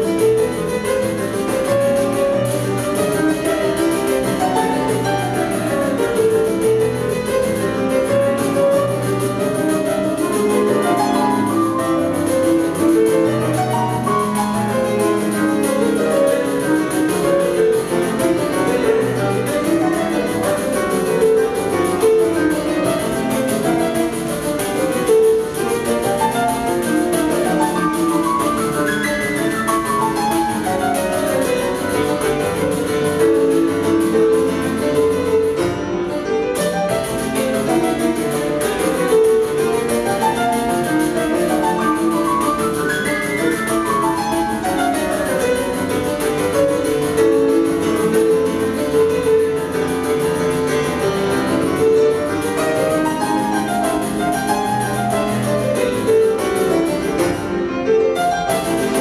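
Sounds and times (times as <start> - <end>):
grand piano piece: 0.0 - 59.0.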